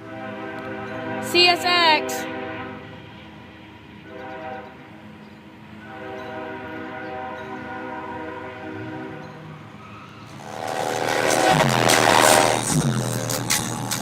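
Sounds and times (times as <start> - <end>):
locomotive air horn blasts: 0.0 - 3.4, 4.0 - 4.9, 5.8 - 9.2, 10.3 - 14.0
passing train rumble: 0.0 - 14.0.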